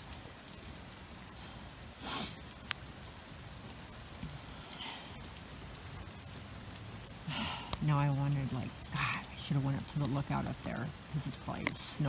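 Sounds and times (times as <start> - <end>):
rain falling on street: 0.0 - 12.0.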